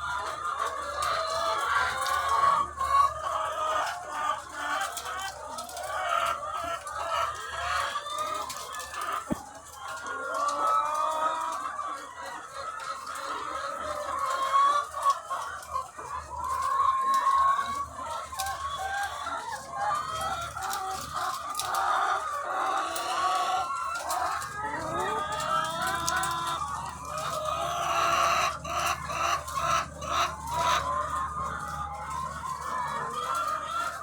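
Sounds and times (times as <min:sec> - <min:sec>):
hens clucking: 0:00.0 - 0:34.0.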